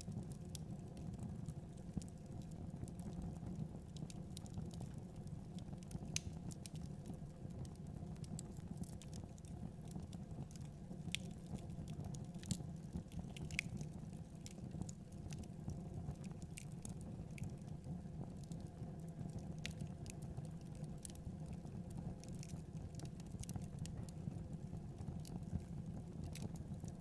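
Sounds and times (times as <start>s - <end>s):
fire crackling in fireplace: 0.0s - 27.0s.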